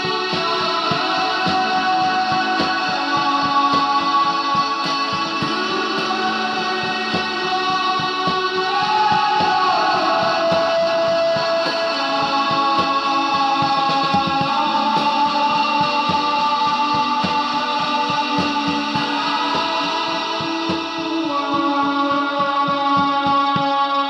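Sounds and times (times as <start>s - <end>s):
song with guitar: 0.0s - 24.0s.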